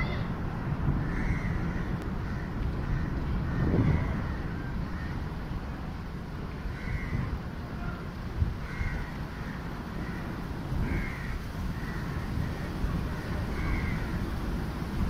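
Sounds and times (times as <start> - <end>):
steady low rumbling: 0.0 - 15.0.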